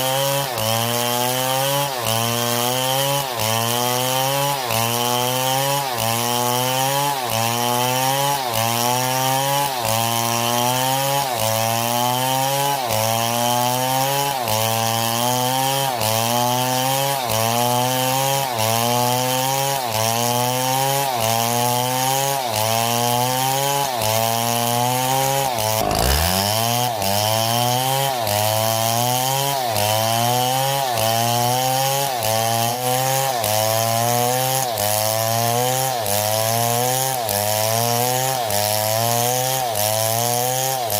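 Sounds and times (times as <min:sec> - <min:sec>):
chainsaw running under load: 0:00.0 - 0:40.9.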